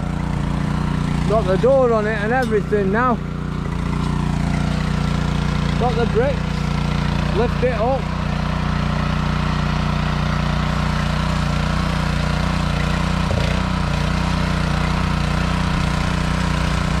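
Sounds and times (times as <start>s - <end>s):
garden tiller engine running: 0.0s - 17.0s
tines churning soil: 0.0s - 17.0s.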